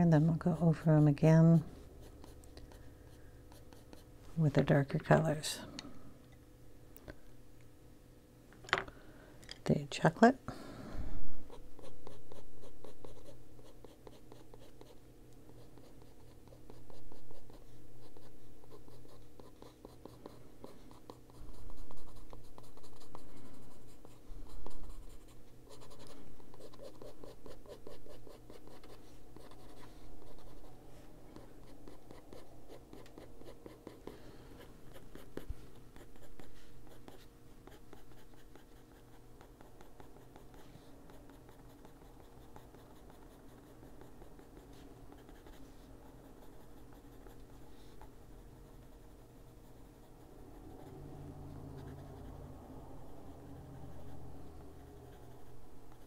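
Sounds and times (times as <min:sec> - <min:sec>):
pencil scratching on paper: 0:00.0 - 0:02.9, 0:11.5 - 0:30.8, 0:31.4 - 0:34.2, 0:34.9 - 0:56.0.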